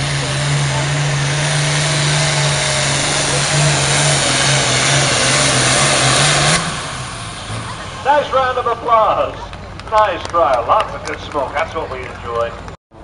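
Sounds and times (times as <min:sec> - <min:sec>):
tractor engine at full throttle: 0:00.0 - 0:13.0.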